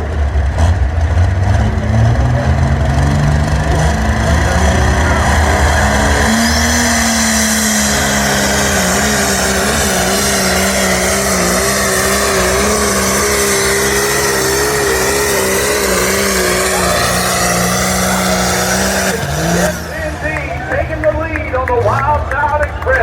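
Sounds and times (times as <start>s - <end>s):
tractor engine at high revs: 0.0s - 23.0s.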